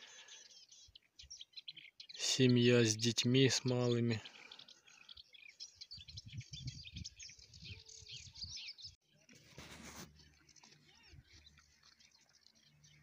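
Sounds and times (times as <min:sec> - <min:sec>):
small birds chirping: 0:00.0 - 0:09.0, 0:09.8 - 0:13.0.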